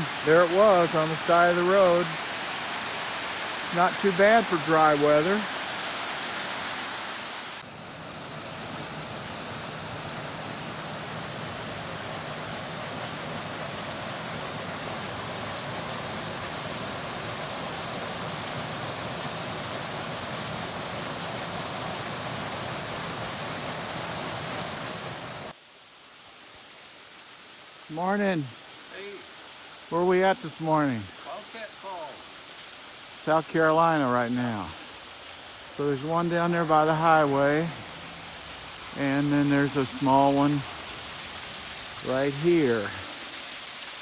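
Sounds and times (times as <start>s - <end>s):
waterfall rushing: 0.0s - 25.6s, 27.6s - 44.0s.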